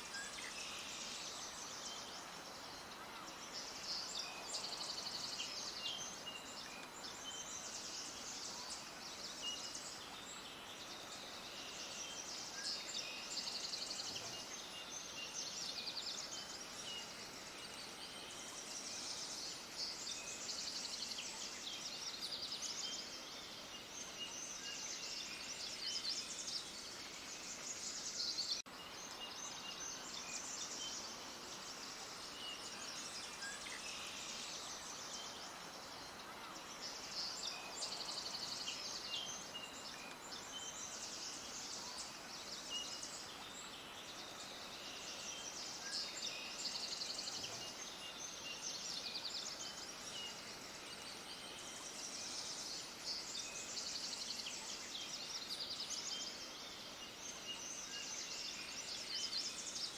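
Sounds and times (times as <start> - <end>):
faint outdoor noise: 0.0 - 59.9
small birds chirping: 0.0 - 59.9.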